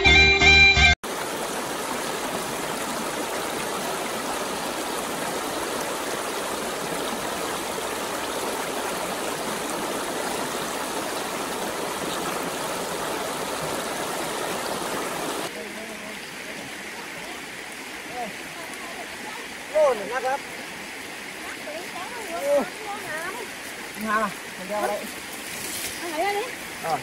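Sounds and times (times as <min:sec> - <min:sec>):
river rushing over rocks: 0:01.1 - 0:27.0.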